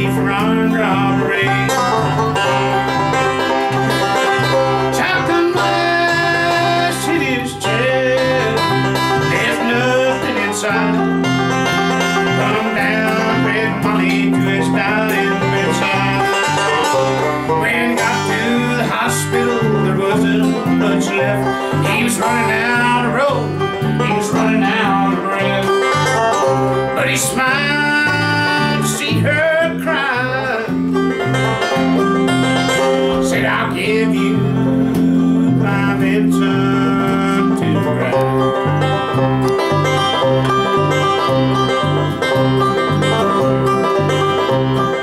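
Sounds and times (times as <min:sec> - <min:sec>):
acoustic guitar: 0:00.0 - 0:45.0
alternating bass line: 0:00.0 - 0:45.0
banjo picking: 0:00.0 - 0:45.0
mandolin: 0:00.0 - 0:45.0.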